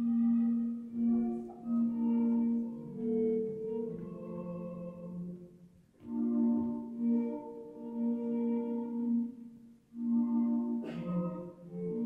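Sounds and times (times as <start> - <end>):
slow music with long held notes: 0.0 - 12.0.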